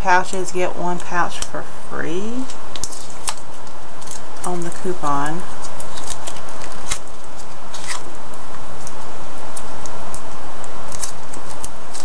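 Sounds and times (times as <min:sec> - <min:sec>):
steady hiss: 0:00.0 - 0:12.0
plastic pouch crinkling: 0:02.2 - 0:12.0.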